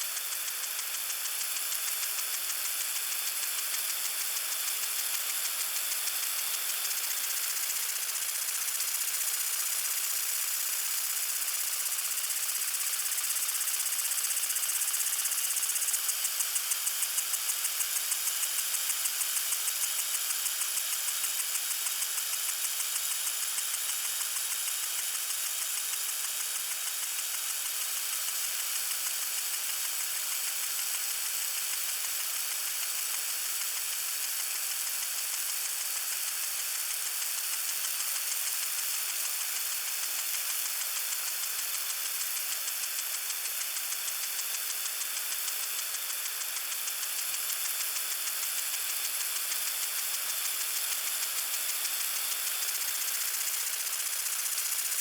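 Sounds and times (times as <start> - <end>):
lawn sprinkler pulsing hiss: 0.0 - 55.0.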